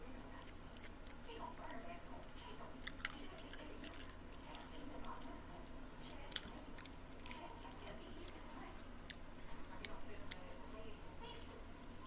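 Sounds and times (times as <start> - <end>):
person chewing: 0.0 - 10.6.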